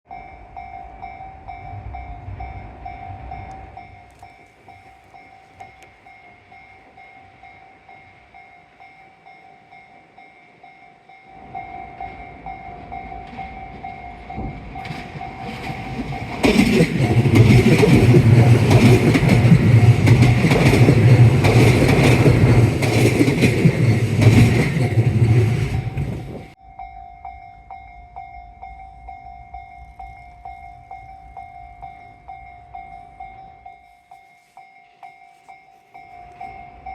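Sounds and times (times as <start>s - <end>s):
electric train passing: 0.1s - 36.9s.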